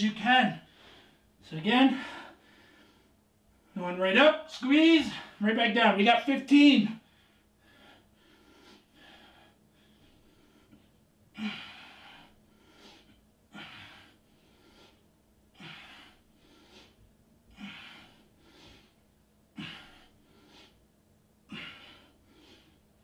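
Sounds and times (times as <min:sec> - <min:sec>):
man breathing hard: 0:00.6 - 0:03.8, 0:07.0 - 0:20.8, 0:21.4 - 0:23.0.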